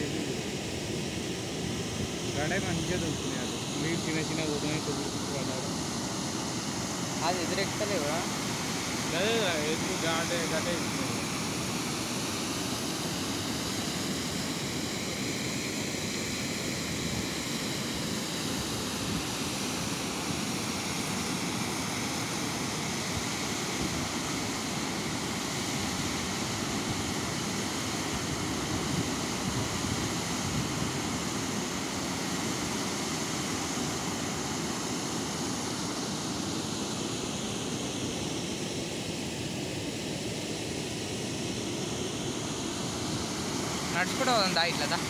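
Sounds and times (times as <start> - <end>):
water rushing over weir: 0.0 - 45.0.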